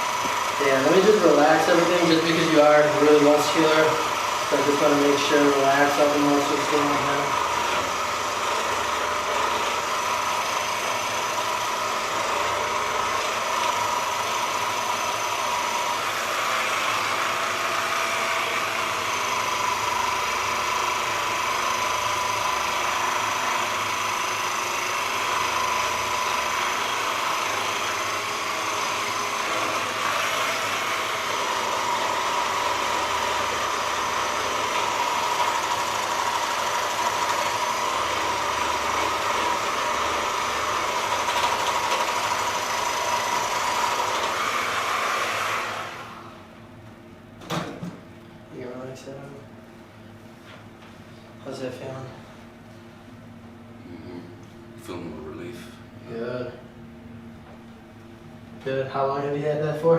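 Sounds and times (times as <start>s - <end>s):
massage gun motor whine: 0.0s - 48.0s.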